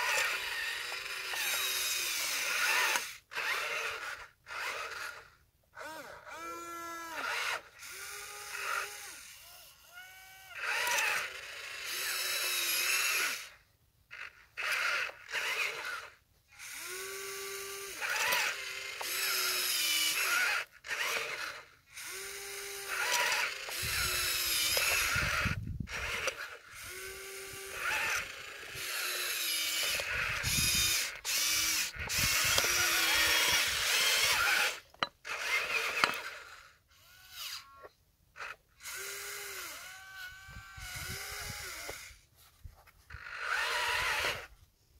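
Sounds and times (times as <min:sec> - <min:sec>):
electric gear motors whining: 0:00.0 - 0:42.3, 0:43.0 - 0:44.6.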